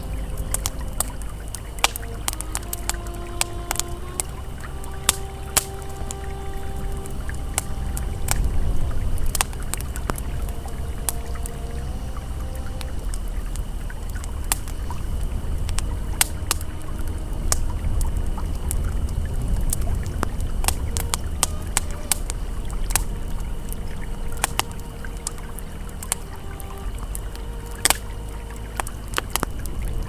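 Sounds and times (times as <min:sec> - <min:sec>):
campfire crackling and popping: 0:00.0 - 0:30.0
river flowing: 0:00.0 - 0:30.0.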